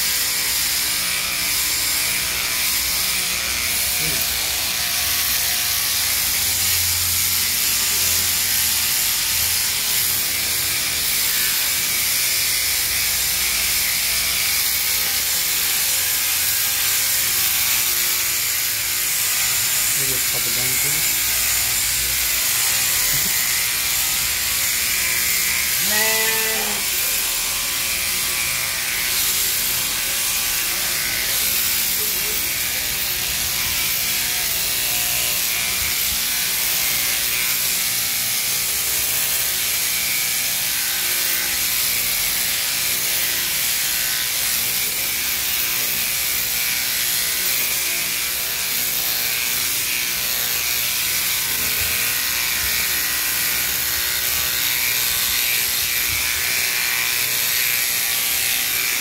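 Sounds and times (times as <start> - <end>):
shearing machine chattering: 0.0 - 59.0.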